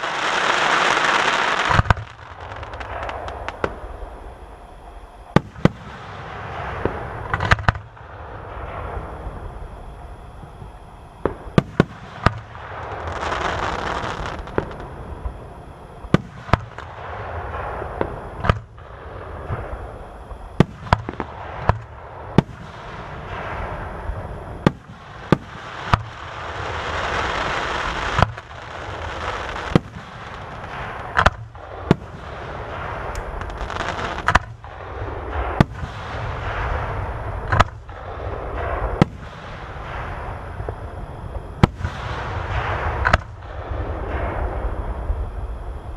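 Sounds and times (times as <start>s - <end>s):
dense firework noise: 0.0s - 45.9s
low rumble: 1.7s - 45.9s.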